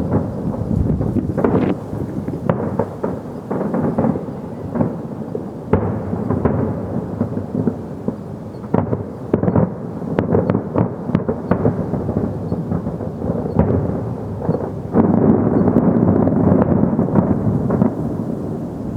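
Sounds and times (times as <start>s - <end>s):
fireworks booming and crackling: 0.0s - 18.9s.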